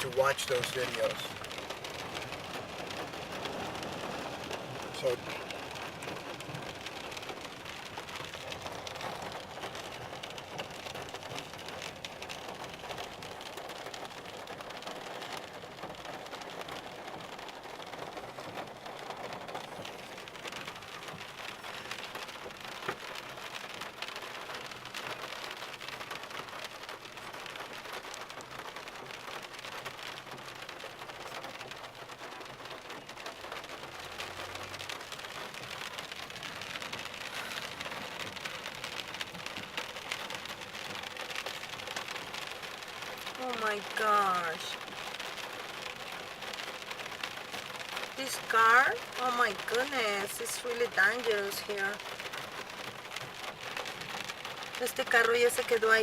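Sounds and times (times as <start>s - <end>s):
rain on a car: 0.0s - 56.0s.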